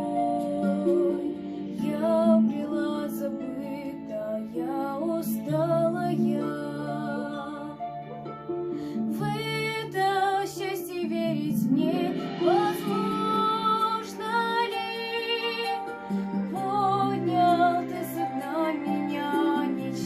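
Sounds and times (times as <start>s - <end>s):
girl singing: 0.0s - 7.8s, 9.1s - 20.0s
soft plucked-string accompaniment: 0.0s - 20.0s.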